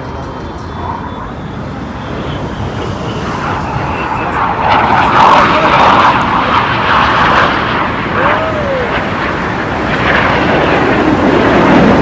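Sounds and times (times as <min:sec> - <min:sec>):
aircraft flying past: 0:00.0 - 0:12.0.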